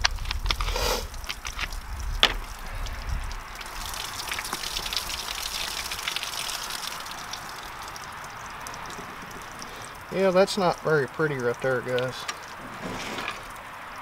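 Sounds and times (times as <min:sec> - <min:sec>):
water pouring onto ground: 0:00.0 - 0:14.0.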